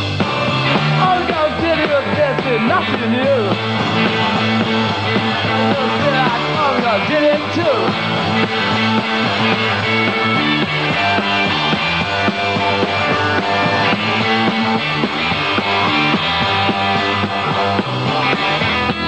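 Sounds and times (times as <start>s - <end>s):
bass: 0.0s - 19.0s
drums: 0.0s - 19.0s
electric guitars: 0.0s - 19.0s.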